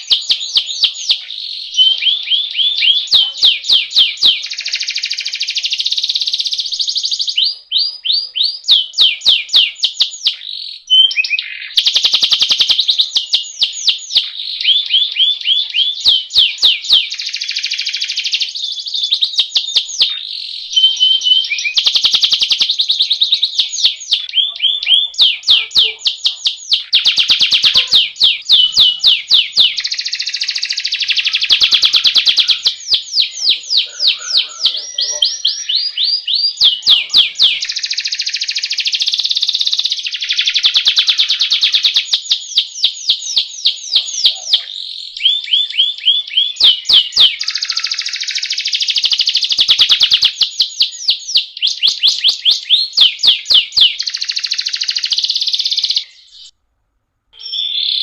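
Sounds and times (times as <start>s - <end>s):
canary singing trills: 0.0s - 56.5s, 57.4s - 58.0s.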